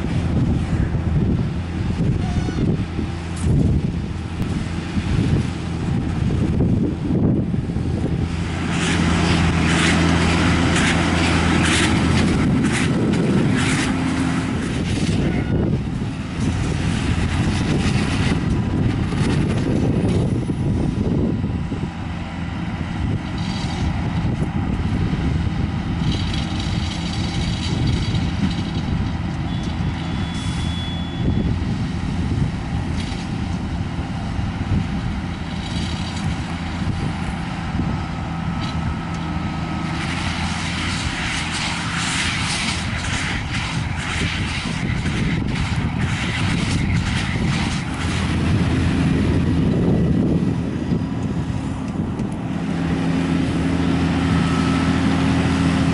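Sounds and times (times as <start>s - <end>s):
baler machinery rattling: 0.0s - 55.9s
tractor engine running under load: 0.0s - 55.9s.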